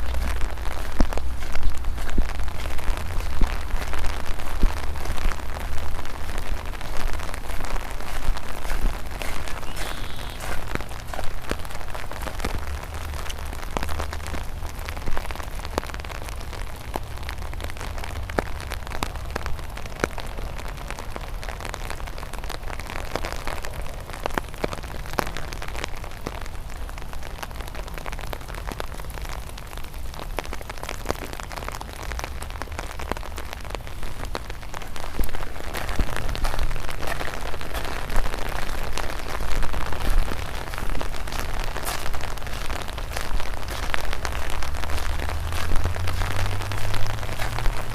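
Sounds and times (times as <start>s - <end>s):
light rain falling: 0.0s - 47.9s.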